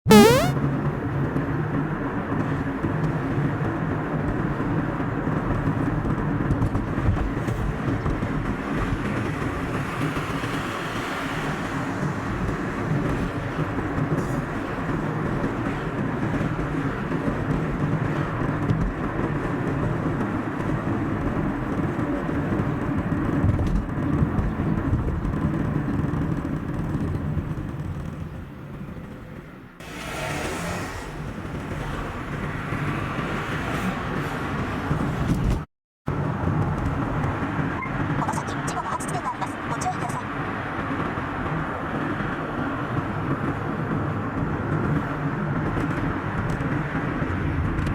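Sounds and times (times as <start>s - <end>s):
car road and engine noise: 0.6s - 47.9s.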